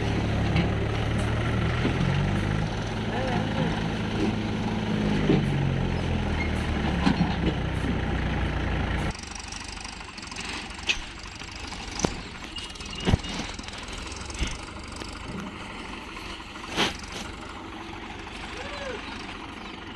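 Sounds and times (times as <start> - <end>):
tractor diesel engine idling: 0.0 - 19.9.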